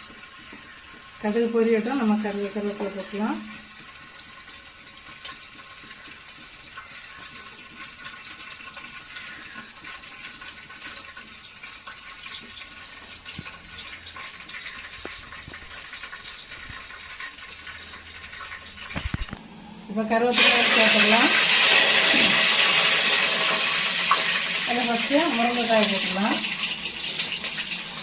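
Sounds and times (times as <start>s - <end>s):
seeds sizzling in hot oil: 0.0s - 28.0s.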